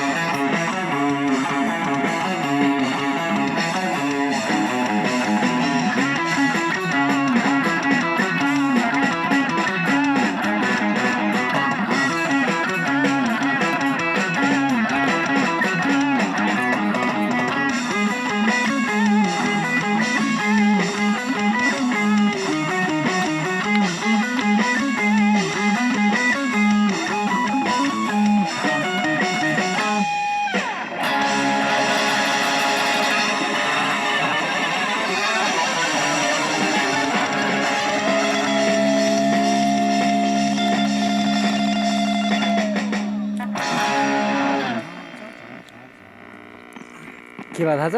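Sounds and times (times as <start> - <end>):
instrumental guitar band music: 0.0 - 46.1.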